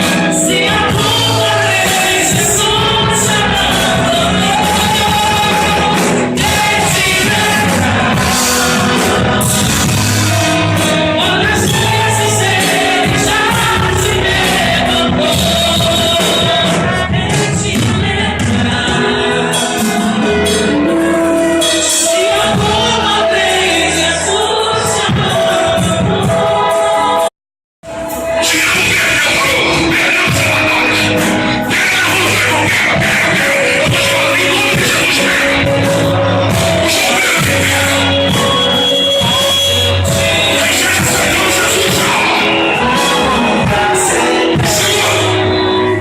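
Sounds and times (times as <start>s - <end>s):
gospel song with accompaniment: 0.0s - 27.3s, 27.9s - 46.0s.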